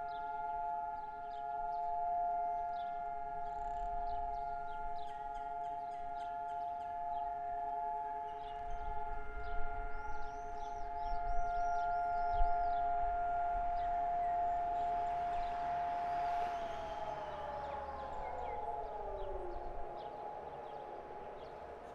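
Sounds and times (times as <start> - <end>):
steady siren tone: 0.0 - 21.9.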